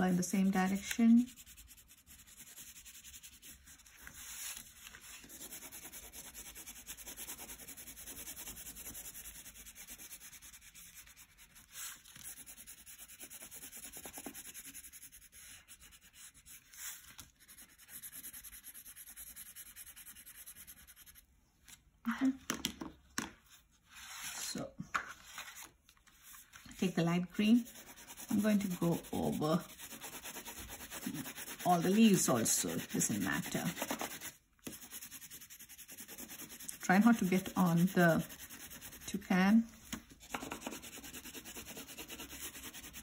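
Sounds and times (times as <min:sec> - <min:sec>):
crayon rubbing on paper: 0:00.1 - 0:04.6, 0:05.2 - 0:21.2, 0:27.4 - 0:39.3, 0:40.4 - 0:43.0.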